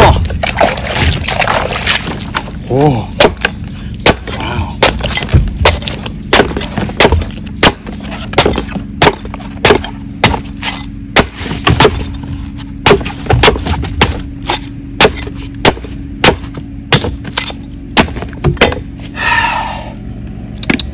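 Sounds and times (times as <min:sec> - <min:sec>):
cleaver chopping coconut husk: 0:00.0 - 0:12.2, 0:12.8 - 0:18.9.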